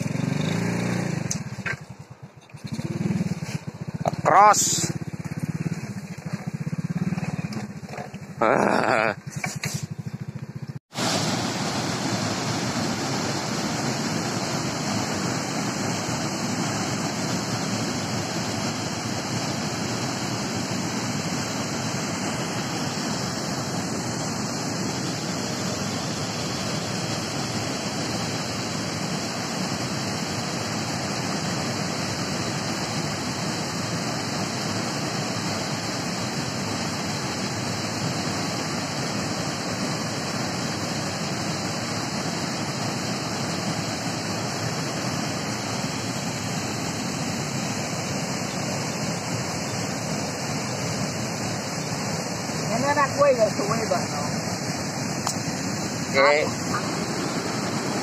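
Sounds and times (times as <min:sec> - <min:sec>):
river water rushing over weir: 0:10.9 - 0:58.0.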